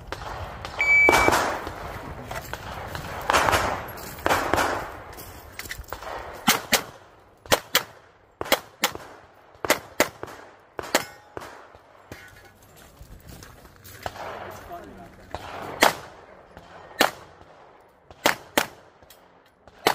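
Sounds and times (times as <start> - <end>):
pistol shots: 0.0 - 5.1, 5.9 - 12.2, 14.0 - 19.9.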